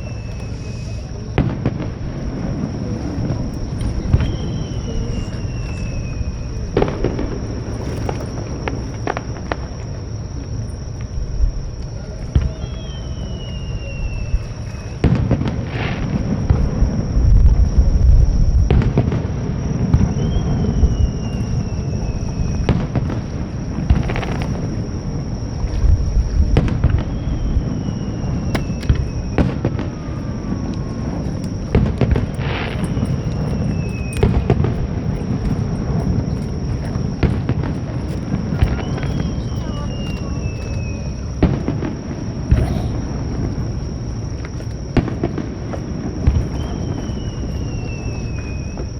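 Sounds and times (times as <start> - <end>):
firework bursts cracking and rumbling: 0.0 - 48.9
firework whistling tones: 0.0 - 48.9.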